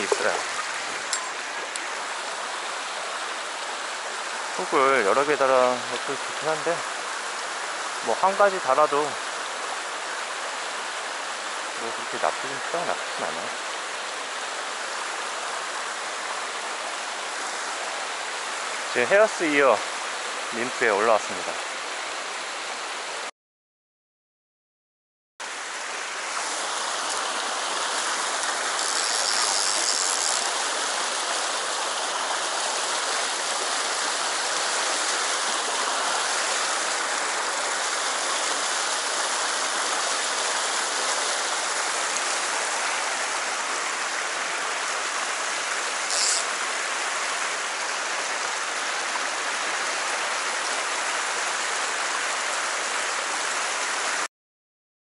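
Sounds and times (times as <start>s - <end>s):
stream rushing over rocks: 0.0s - 23.3s, 25.4s - 54.3s.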